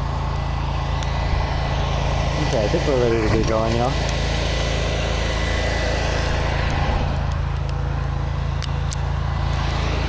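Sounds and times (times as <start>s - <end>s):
pressure washer engine running: 0.0s - 10.0s.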